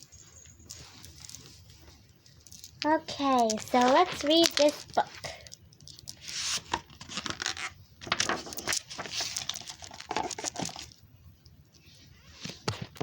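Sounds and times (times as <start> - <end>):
handling noise rustling and scraping: 0.0 - 11.0, 11.7 - 13.0.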